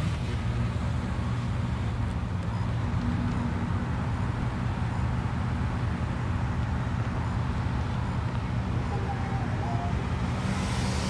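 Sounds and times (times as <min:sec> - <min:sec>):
car engine idling: 0:00.8 - 0:11.0.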